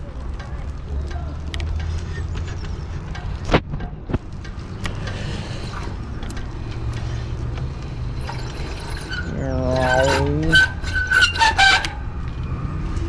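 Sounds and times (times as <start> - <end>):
rumble of tyres and wind: 0.0 - 13.0.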